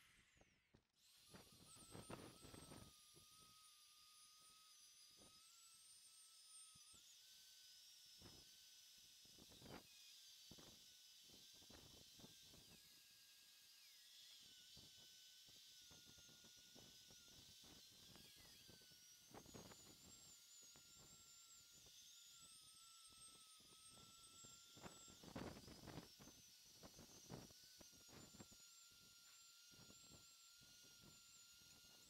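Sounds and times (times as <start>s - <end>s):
rotary tool whining: 0.0s - 32.0s.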